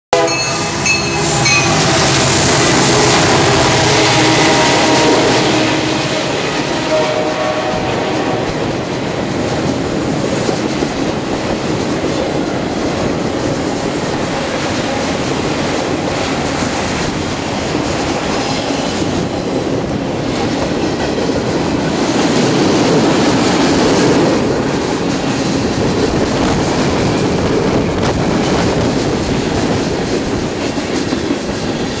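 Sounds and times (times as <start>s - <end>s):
train wheels rolling on rails: 0.2s - 32.0s.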